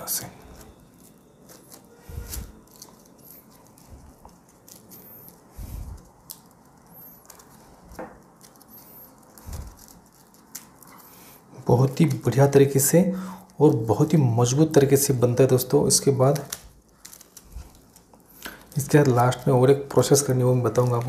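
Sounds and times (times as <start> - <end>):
rope strands rubbing and squeaking: 0.0 - 12.8, 14.8 - 21.0.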